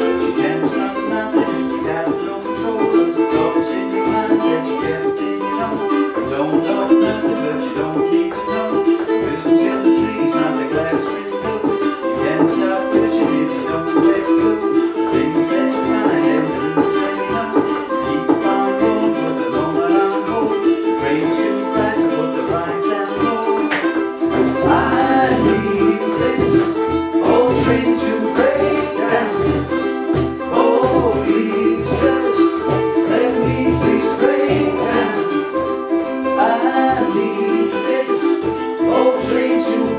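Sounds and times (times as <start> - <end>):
hand percussion: 0.0 - 39.9
ukuleles strumming: 0.0 - 39.9.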